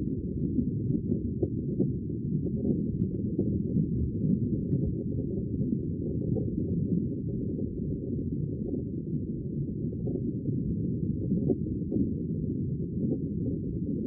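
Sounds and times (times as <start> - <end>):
deep rumble of sea water: 0.0 - 14.0.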